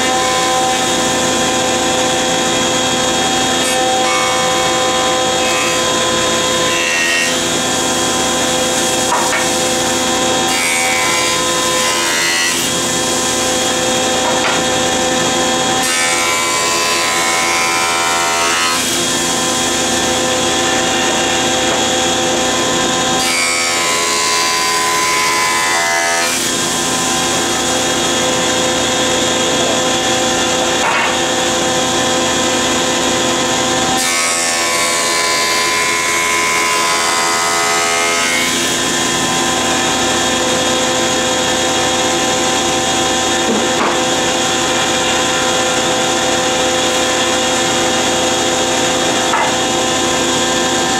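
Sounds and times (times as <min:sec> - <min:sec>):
cutterhead planing a board: 0:00.0 - 0:50.9.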